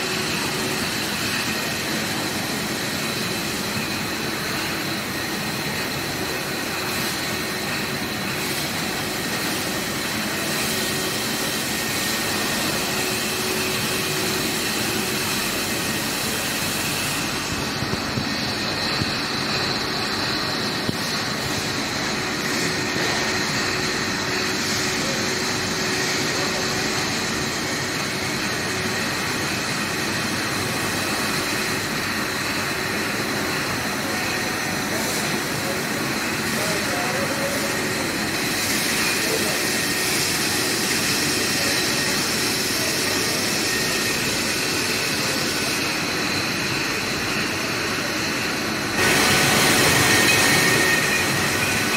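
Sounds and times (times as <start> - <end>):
bottle conveyor running: 0.0 - 51.9
high-pitched machine whine: 0.0 - 51.9.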